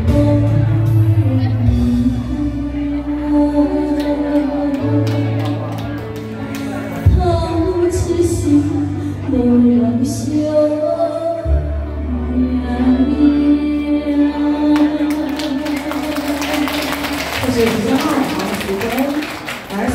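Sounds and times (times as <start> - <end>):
woman singing into microphone: 0.0 - 5.8, 7.0 - 19.9.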